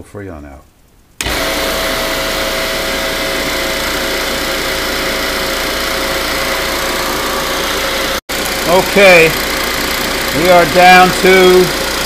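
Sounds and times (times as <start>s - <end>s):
machine running with low hum: 1.2s - 12.0s.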